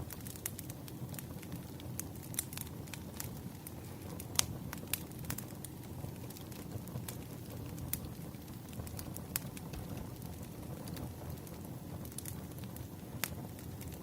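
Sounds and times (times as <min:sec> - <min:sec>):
crackling wood fire: 0:00.0 - 0:14.0.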